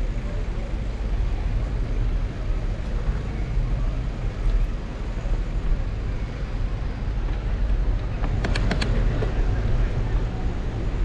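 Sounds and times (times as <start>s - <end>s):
bicycle rolling noise: 0.0s - 11.0s.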